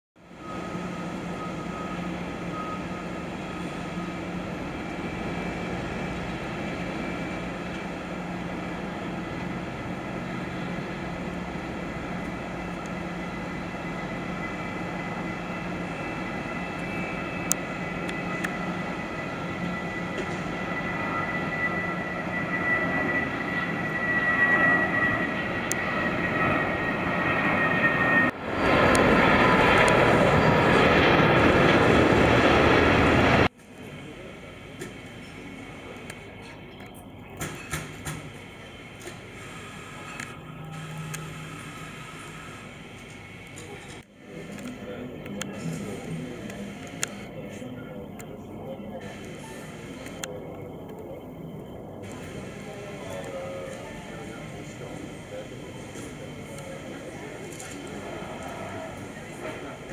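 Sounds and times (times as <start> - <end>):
jet engines roaring at take-off: 0.2 - 59.9.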